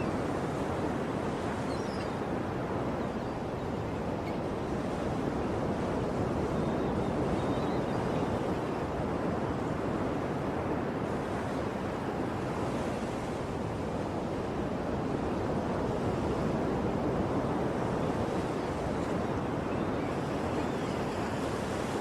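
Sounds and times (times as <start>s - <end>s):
sea waves washing ashore: 0.0s - 22.0s.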